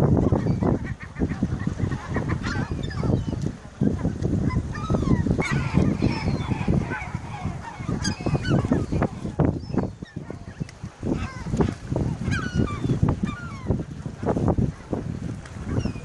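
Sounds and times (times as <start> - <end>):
gulls calling harshly: 0.0 - 16.0.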